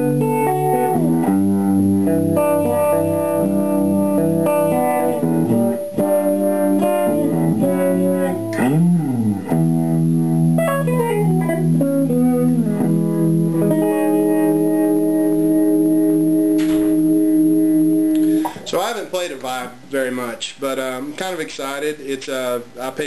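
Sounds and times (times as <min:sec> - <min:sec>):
clean electric guitar with vibe: 0:00.0 - 0:18.7.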